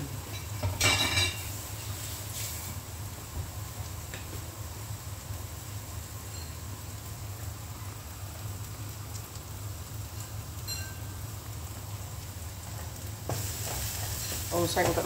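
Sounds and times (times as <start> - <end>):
spice paste crackling in oil: 0.2 - 15.0.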